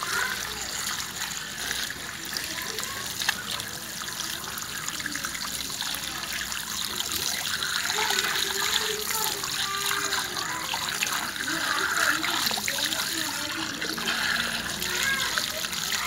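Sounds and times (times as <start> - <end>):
water trickling and splashing: 0.0 - 16.0.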